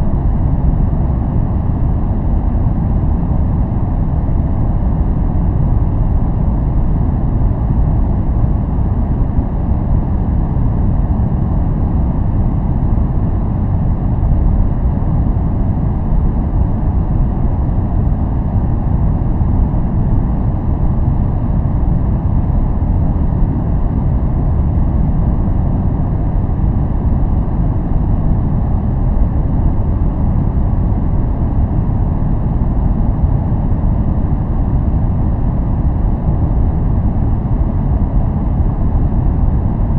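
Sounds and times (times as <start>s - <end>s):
low white noise rumble: 0.0s - 39.9s.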